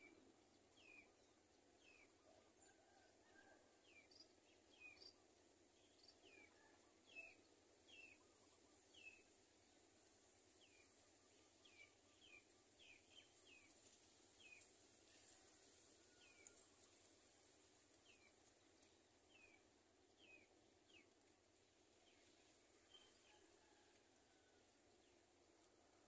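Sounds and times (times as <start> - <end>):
low steady outdoor hiss: 0.0 - 26.0.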